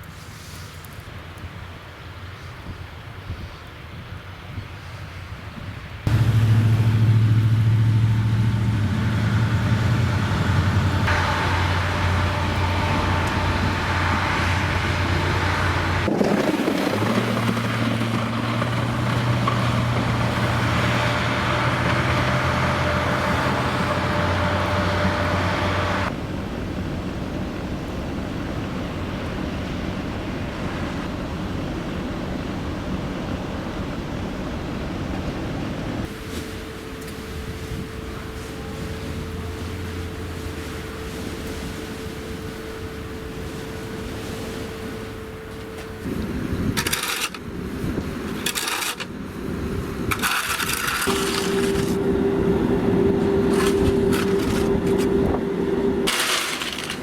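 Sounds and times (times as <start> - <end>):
road noise: 0.0 - 57.0
vehicle engine hum: 6.0 - 57.0.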